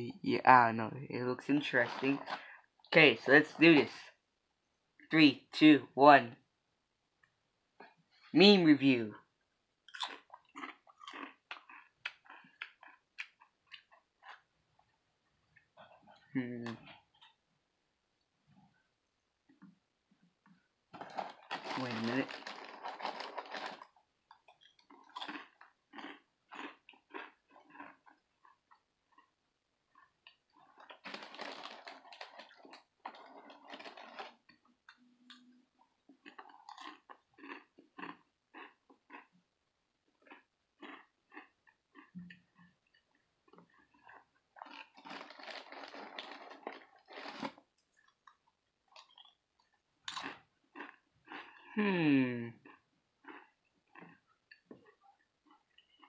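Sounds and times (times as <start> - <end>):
person chewing crunchy crackers: 1.5 - 4.0, 9.9 - 17.4, 20.5 - 39.4, 40.0 - 56.0.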